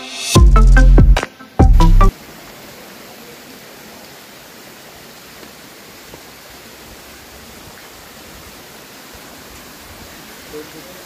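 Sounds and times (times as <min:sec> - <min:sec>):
waterfall rushing into pool: 0:01.2 - 0:11.0.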